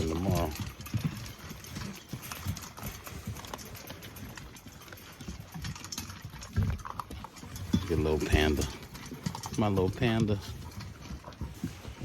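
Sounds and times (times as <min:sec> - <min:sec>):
dogs chewing dry food: 0:00.0 - 0:12.0.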